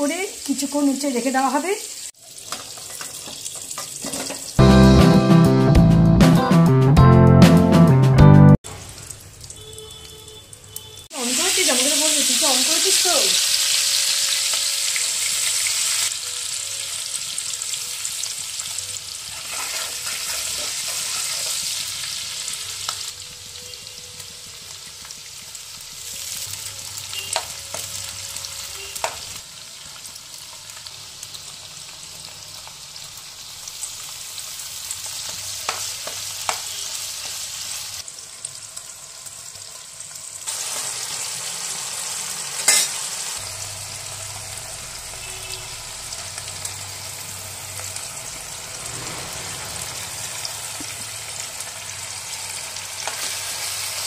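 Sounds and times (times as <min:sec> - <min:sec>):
food sizzling in hot oil: 0:00.0 - 0:04.6, 0:08.6 - 0:54.0.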